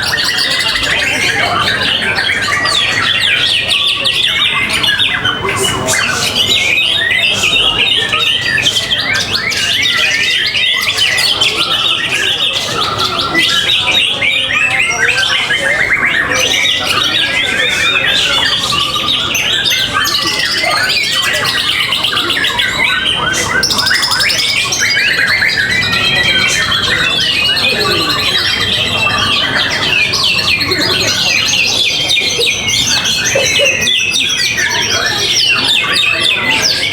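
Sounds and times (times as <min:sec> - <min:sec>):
caged songbirds singing: 0:00.0 - 0:36.9.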